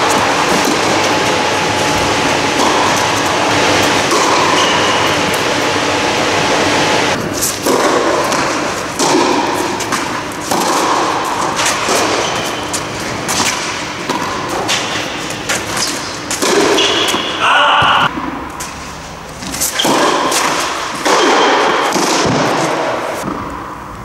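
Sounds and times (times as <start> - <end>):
tennis ball bounces: 0.0 - 18.7, 19.6 - 23.8
tennis racket strikes: 0.0 - 23.8.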